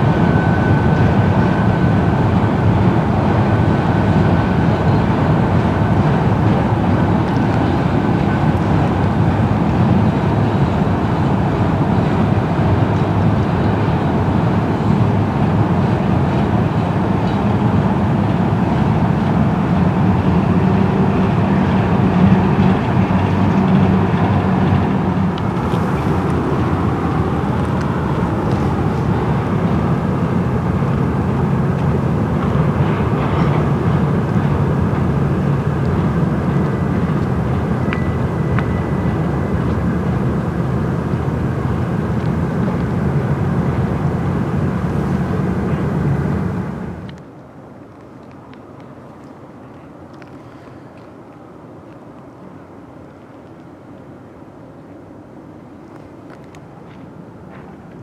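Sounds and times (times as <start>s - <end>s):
train rumbling: 0.0s - 47.5s.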